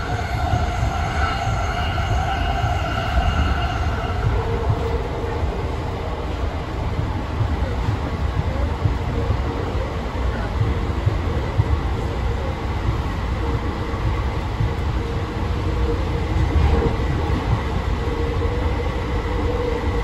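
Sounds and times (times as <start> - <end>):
faint constant whine: 0.0 - 20.0
train wheels rumbling on rail: 0.0 - 20.0.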